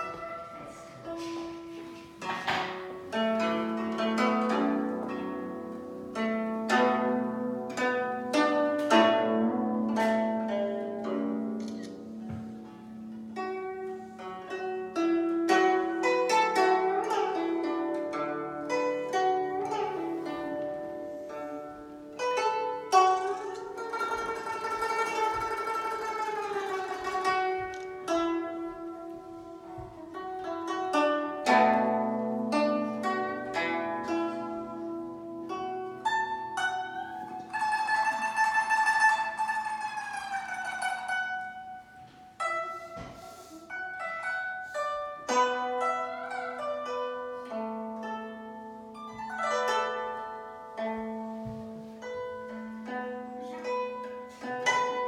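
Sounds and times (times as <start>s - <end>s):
plucked zither melody: 0.0s - 55.0s.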